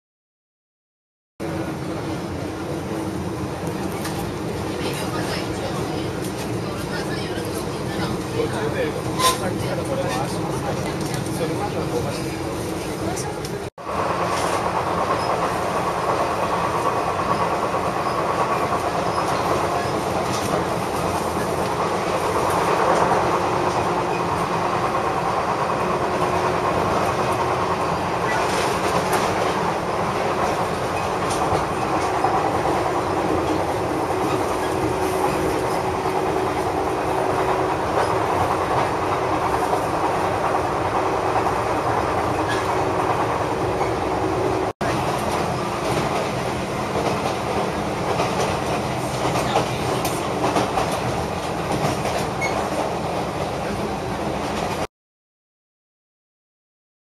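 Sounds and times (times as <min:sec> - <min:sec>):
train wheels rumbling on rails: 0:01.4 - 0:54.9
clickety-clack over rail joints: 0:03.6 - 0:44.2, 0:44.8 - 0:54.9.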